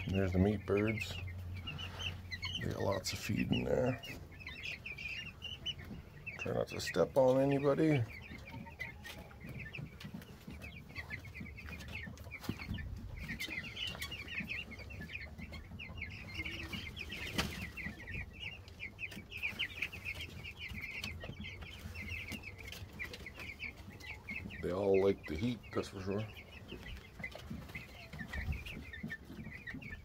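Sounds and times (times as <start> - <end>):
chicks and ducklings peeping: 0.0 - 30.0.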